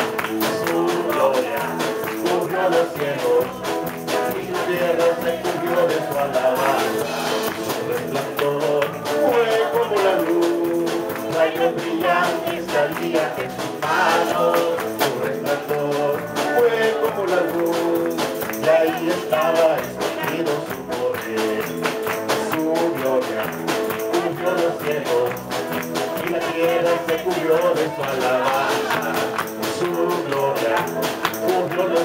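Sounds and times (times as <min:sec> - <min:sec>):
man singing into microphone: 0:00.0 - 0:25.5, 0:26.1 - 0:32.0
small band with bass and keyboard: 0:00.0 - 0:32.0.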